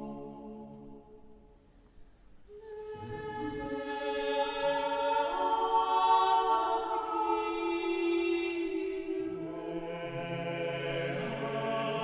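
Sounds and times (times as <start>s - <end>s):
choir-like voices holding notes: 0.0s - 1.5s, 2.5s - 12.0s.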